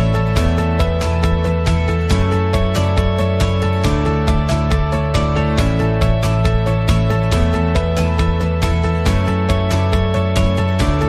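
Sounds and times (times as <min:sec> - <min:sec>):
background music with quick beat: 0:00.0 - 0:11.0.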